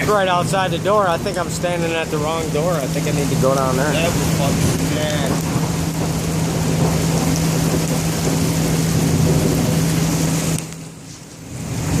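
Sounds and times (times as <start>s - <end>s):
heavy rain falling: 0.0s - 12.0s
low hum: 0.0s - 12.0s.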